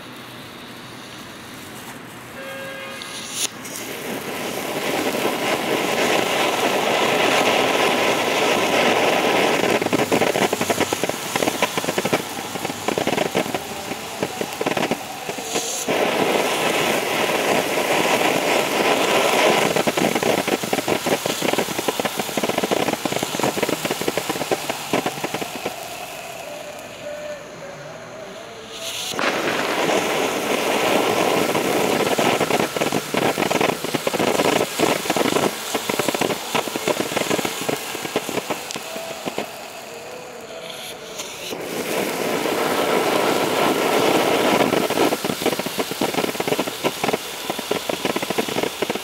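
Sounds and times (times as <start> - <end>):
fireworks fountain hissing and crackling: 0.0 - 49.0.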